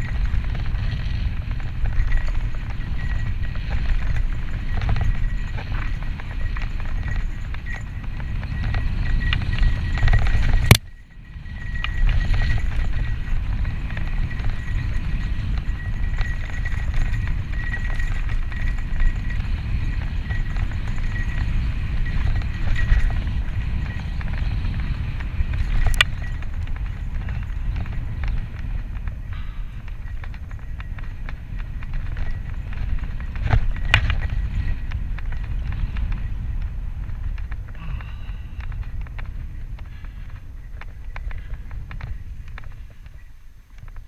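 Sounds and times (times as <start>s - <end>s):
bike tyres rumbling and rattling: 0.0s - 44.0s
wind buffeting microphone: 0.0s - 44.0s.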